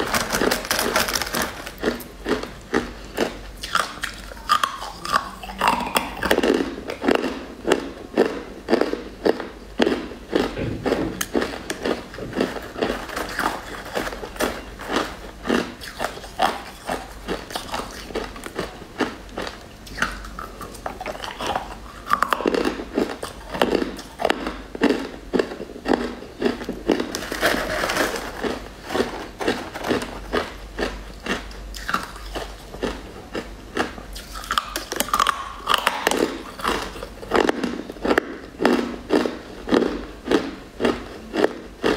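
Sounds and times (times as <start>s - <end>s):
biting and crunching hard chunks: 0.0s - 41.9s.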